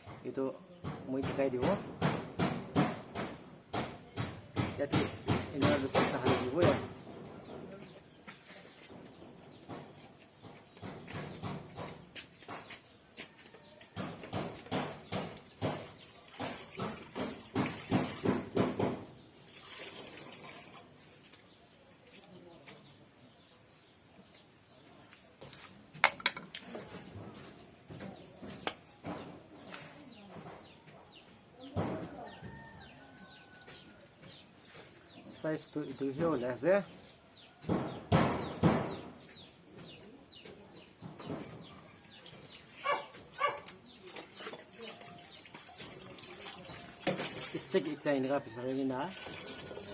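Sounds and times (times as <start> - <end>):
birds chirping: 0.0 - 19.4, 20.8 - 49.9.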